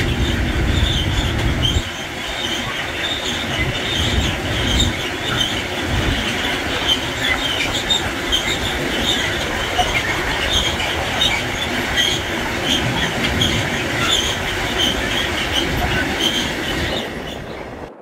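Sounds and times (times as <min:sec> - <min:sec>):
high-pitched wheel squeals: 0:00.0 - 0:17.7
train wheels rumbling on rail: 0:00.0 - 0:18.0
wind buffeting microphone: 0:00.0 - 0:18.0.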